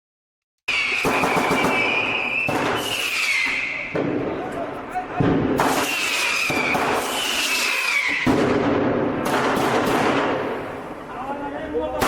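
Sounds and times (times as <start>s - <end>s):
whistling fireworks: 0.7s - 11.0s
firecrackers banging: 0.7s - 11.2s.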